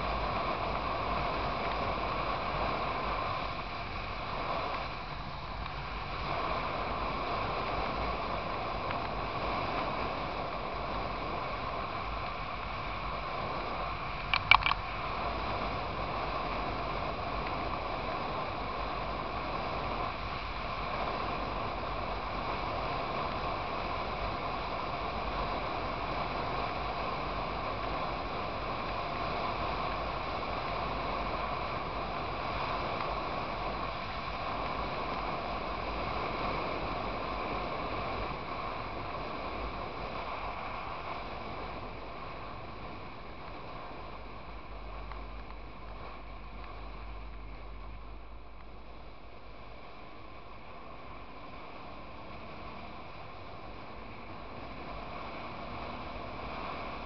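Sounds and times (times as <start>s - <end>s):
motorcycle cruising: 0.0s - 57.0s.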